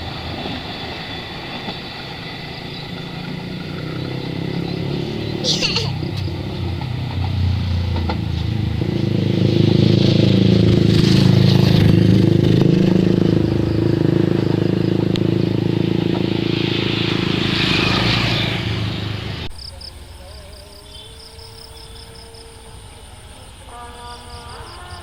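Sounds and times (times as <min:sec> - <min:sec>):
diesel train engine droning: 0:00.0 - 0:25.0
insects chirping: 0:00.0 - 0:25.0
rail noise: 0:00.0 - 0:25.0.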